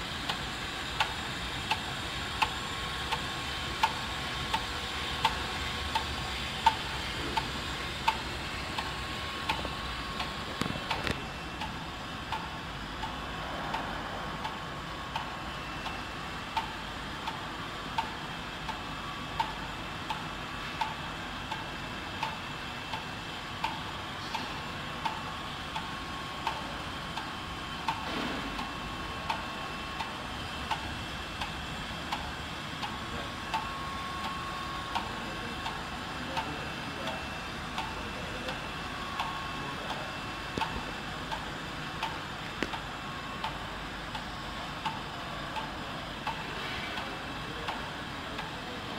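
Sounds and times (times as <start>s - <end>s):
faint steady whine: 0.0s - 48.9s
machine humming: 0.0s - 48.9s.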